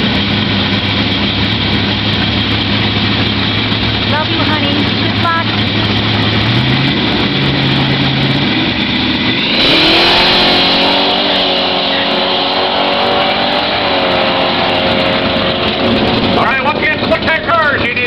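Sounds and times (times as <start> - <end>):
drag car engine launching: 0.1 - 18.0.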